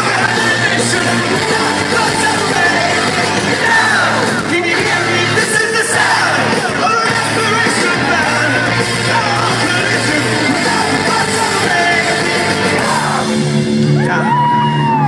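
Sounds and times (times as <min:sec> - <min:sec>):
person singing: 0:00.0 - 0:13.4
crowd yelling: 0:00.0 - 0:15.0
live rock band playing: 0:00.0 - 0:15.0.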